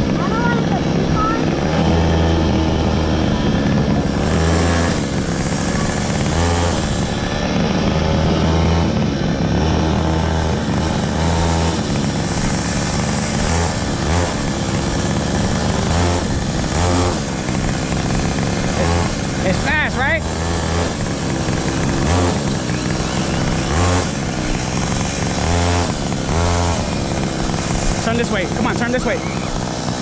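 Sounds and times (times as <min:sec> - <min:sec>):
electric ride-on car motor whine: 0:00.0 - 0:30.0
low hum: 0:00.0 - 0:30.0
plastic wheels rumbling on pavement: 0:00.0 - 0:30.0.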